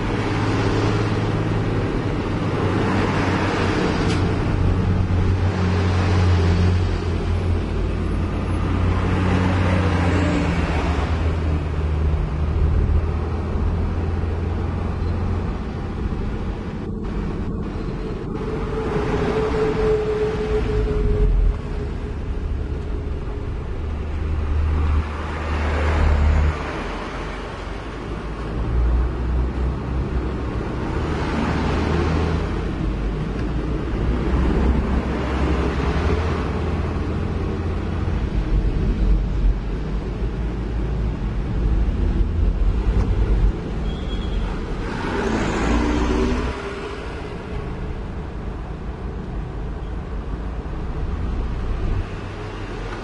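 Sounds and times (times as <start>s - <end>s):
heavy trucks rumbling: 0.0s - 53.0s
passing truck whine: 0.0s - 53.0s.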